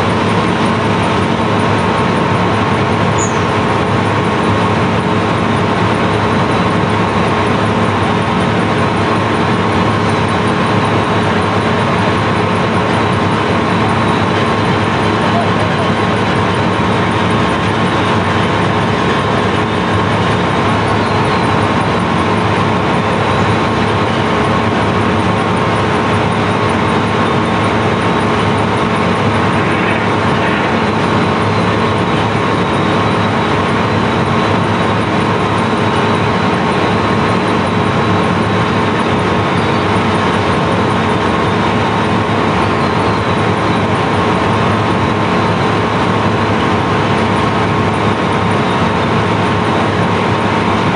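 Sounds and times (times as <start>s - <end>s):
heavy machinery droning: 0.0s - 50.9s.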